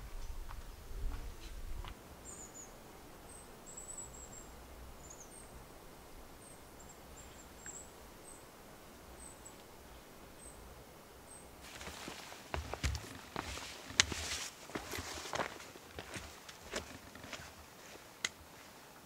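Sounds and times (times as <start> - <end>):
low steady background hiss: 0.0 - 19.0.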